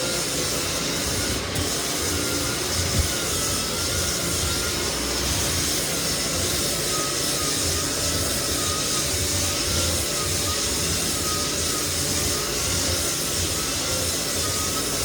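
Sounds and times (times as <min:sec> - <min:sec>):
floor sander running: 0:00.0 - 0:15.0.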